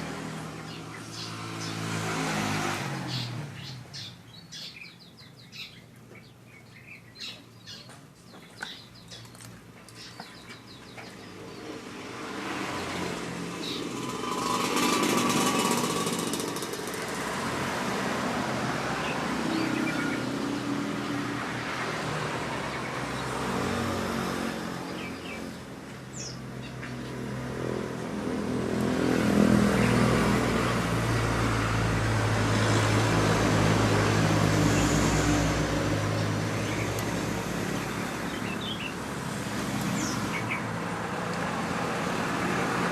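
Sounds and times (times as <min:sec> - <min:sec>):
small birds chirping: 0:00.0 - 0:12.4, 0:13.2 - 0:17.2, 0:18.2 - 0:31.4, 0:32.9 - 0:41.5.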